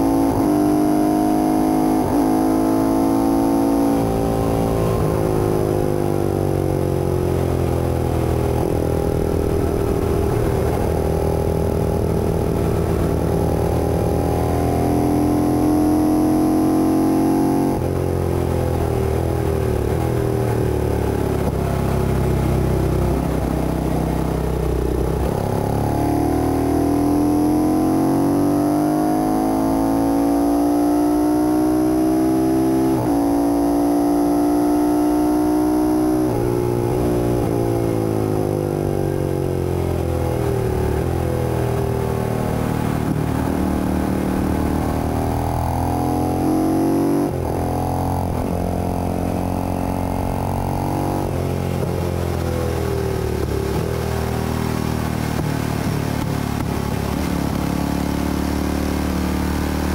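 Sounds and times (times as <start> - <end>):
motorcycle race engine: 0.0 - 59.9.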